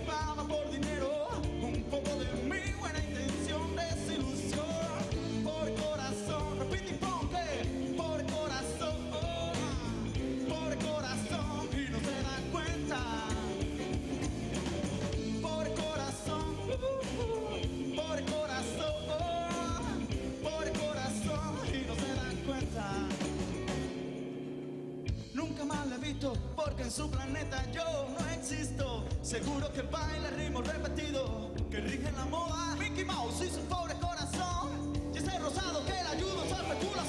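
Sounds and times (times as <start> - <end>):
live band playing: 0.0 - 37.0
melodic lead guitar line: 0.0 - 37.0.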